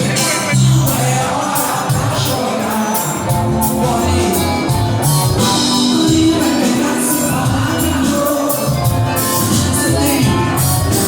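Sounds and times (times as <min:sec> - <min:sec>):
upbeat music with singing and guitar: 0:00.0 - 0:11.0.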